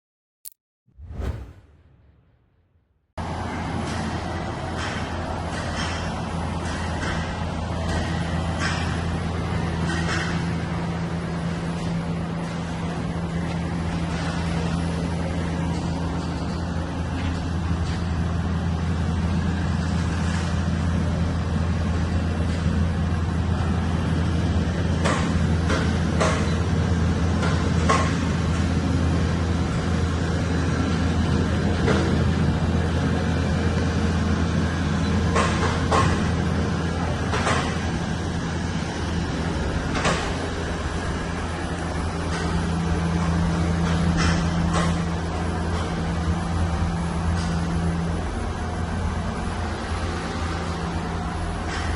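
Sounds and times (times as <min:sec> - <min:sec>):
low machinery hum: 0:03.2 - 0:51.9.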